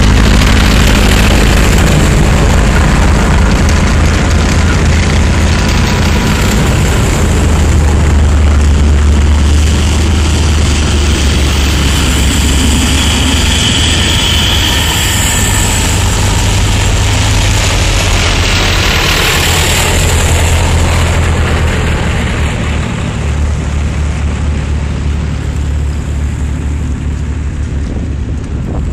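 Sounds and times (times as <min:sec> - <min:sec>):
vehicle convoy engines droning: 0:00.0 - 0:28.9.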